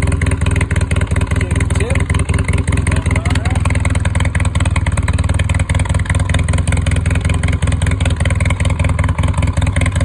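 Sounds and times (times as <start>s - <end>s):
atv engine idling: 0.0s - 10.0s.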